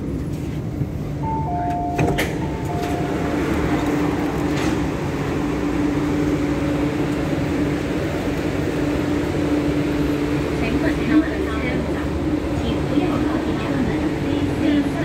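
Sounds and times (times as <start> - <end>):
low hum with rushing noise: 2.4 - 15.0.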